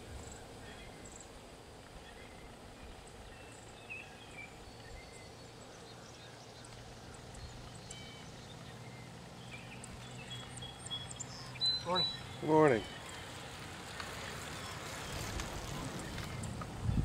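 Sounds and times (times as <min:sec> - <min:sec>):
faint high chirps and ticks: 0:00.0 - 0:17.0.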